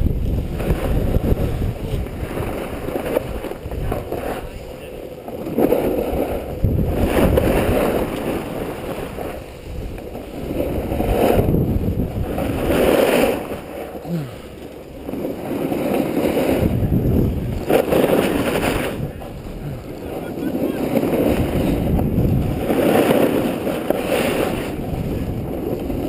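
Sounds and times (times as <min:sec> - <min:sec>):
snowboard scraping over snow: 0:00.0 - 0:26.0
wind buffeting microphone: 0:00.0 - 0:26.0.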